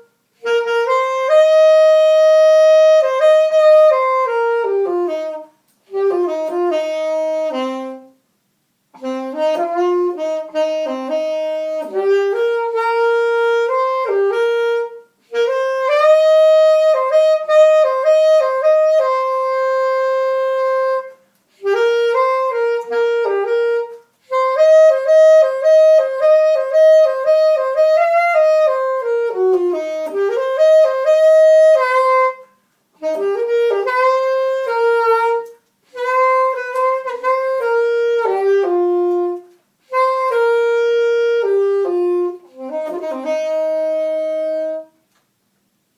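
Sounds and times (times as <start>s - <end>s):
saxophone solo: 0.0s - 45.3s.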